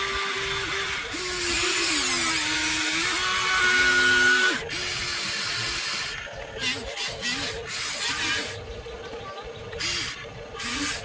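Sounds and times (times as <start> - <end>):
motors and hydraulic pump whining: 0.0 - 11.0.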